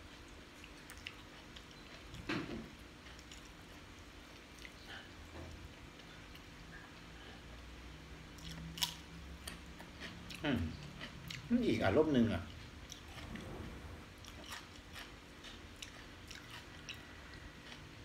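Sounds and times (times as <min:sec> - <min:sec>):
person chewing food: 0:00.0 - 0:07.7, 0:08.3 - 0:11.5, 0:12.4 - 0:13.5, 0:14.1 - 0:18.0.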